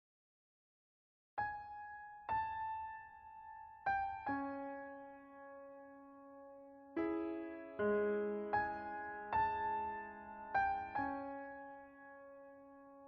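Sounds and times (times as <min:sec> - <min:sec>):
slow electric piano: 0:01.4 - 0:13.0.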